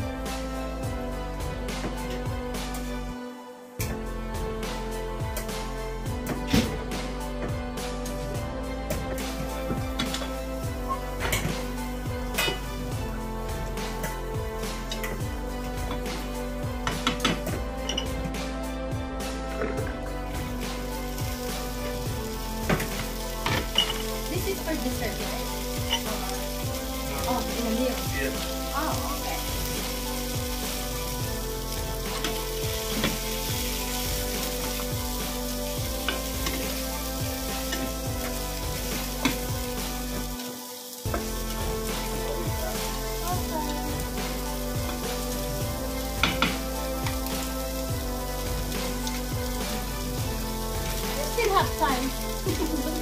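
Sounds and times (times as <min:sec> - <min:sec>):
beans sizzling in oil: 0:00.0 - 0:53.0.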